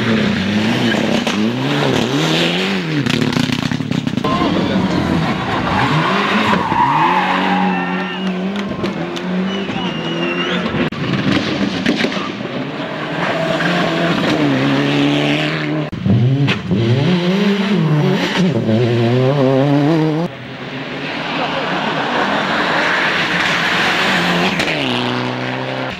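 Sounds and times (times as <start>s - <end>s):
rally car engines revving: 0.0s - 25.9s.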